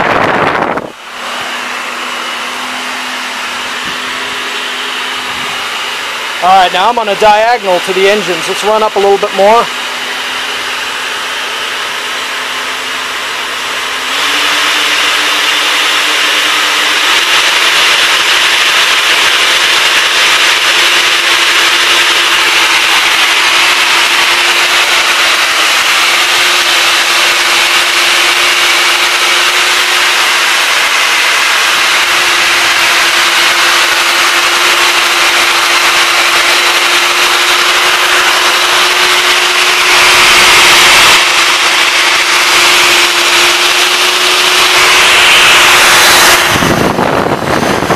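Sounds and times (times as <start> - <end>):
electric ducted fans whining: 0.0 - 47.9.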